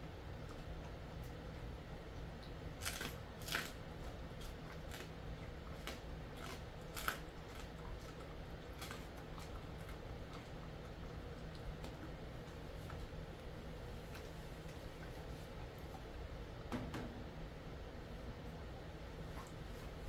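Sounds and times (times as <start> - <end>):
faint low hum: 0.0 - 20.0
dog chewing crunchy treat: 0.3 - 16.4.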